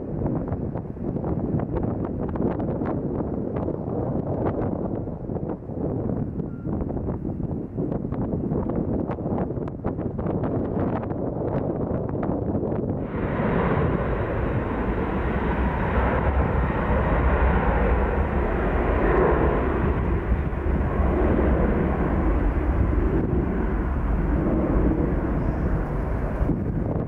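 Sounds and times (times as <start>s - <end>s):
jet engines at takeoff power: 0.0s - 27.0s.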